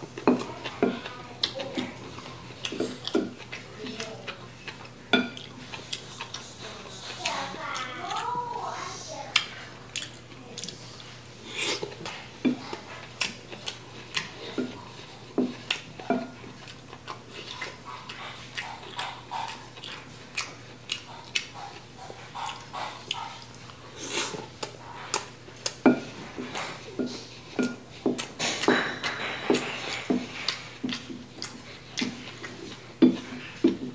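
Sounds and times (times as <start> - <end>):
chewing and lip smacks: 0.1 - 8.4, 9.2 - 33.9.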